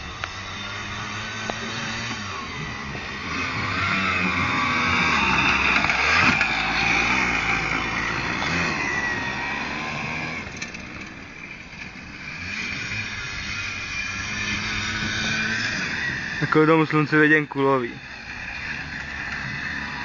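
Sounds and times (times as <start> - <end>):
dirt bikes revving past: 0.0 - 20.0.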